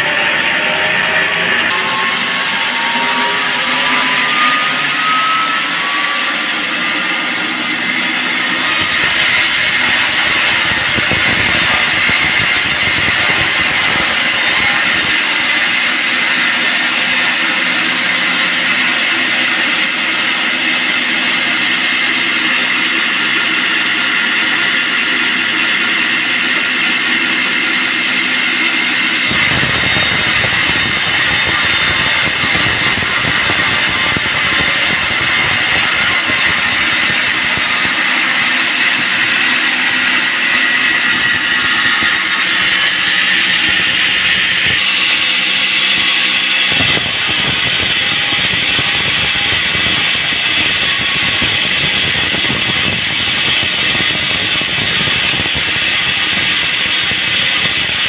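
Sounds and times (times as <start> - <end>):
band saw mechanical noise: 0.0 - 58.0
high saw whine: 0.0 - 58.0.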